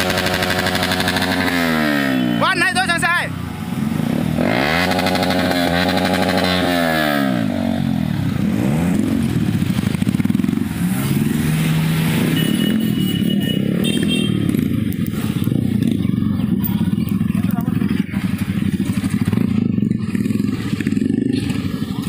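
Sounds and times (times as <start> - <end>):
motorcycle engine revving: 0.0 - 22.0
motorcycles pulling away: 0.0 - 22.0.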